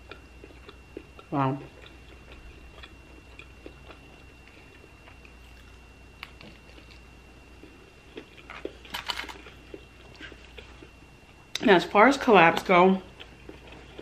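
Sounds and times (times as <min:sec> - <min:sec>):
soft chewing: 0:00.0 - 0:11.6, 0:12.5 - 0:14.0.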